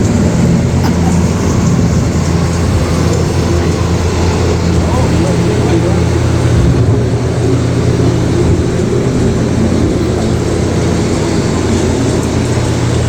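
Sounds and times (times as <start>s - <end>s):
loud low rumble: 0.0s - 13.0s
machine hum: 0.0s - 13.0s.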